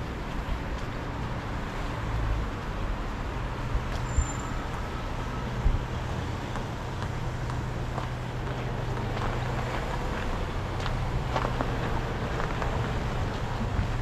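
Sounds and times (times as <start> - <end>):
street traffic engine hum: 0.0 - 14.0.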